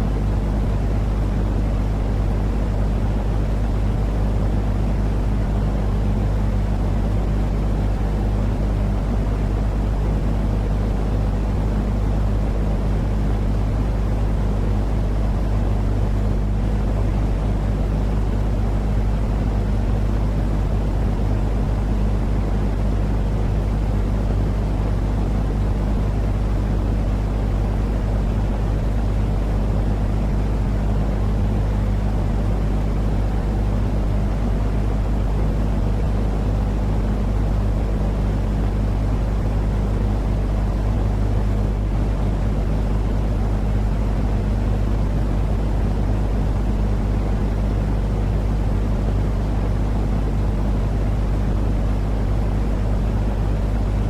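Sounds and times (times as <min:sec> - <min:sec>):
continuous low rumbling noise: 0:00.0 - 0:54.0
steady deep hum: 0:00.0 - 0:54.0.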